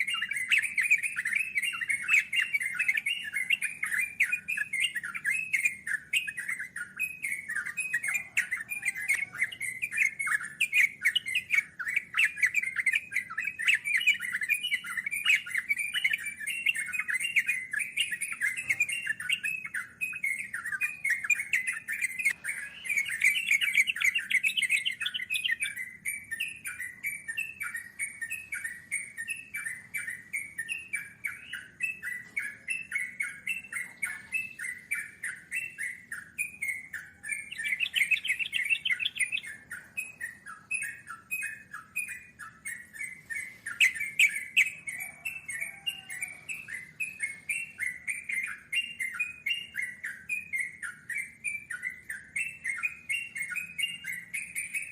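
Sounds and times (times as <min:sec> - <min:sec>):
bulbuls singing rapid notes: 0:00.0 - 0:54.9.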